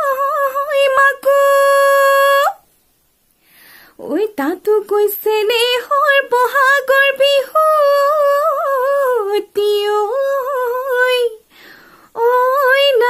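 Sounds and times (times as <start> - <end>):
woman singing unaccompanied: 0.0 - 2.7, 4.0 - 11.5, 12.1 - 13.0.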